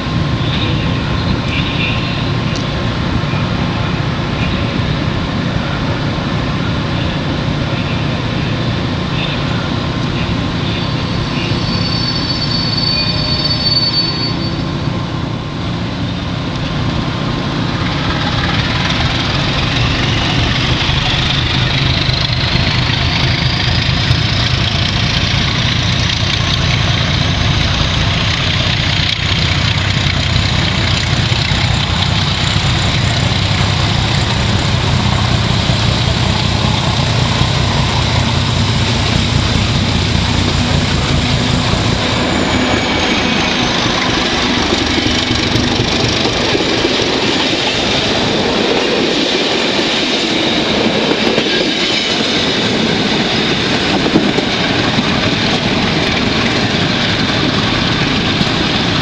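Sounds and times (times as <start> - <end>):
diesel locomotive engine: 0.0 - 59.0
train wheels rolling on rails: 0.0 - 59.0.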